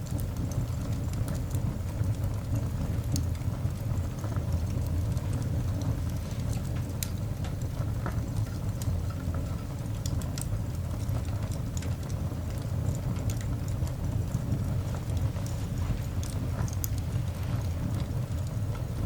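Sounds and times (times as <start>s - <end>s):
coal fire crackling: 0.0s - 19.0s.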